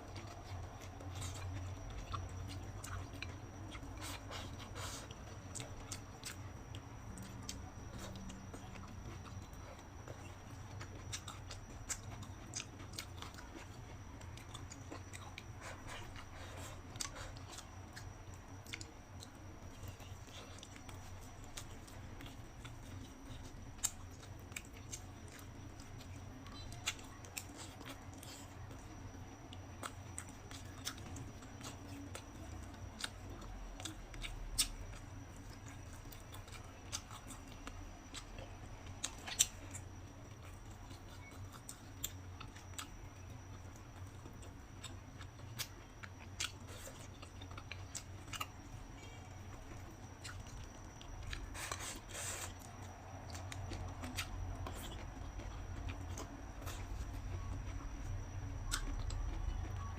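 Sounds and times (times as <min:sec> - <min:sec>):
low steady hum: 0:00.0 - 0:59.9
person chewing: 0:00.1 - 0:59.9.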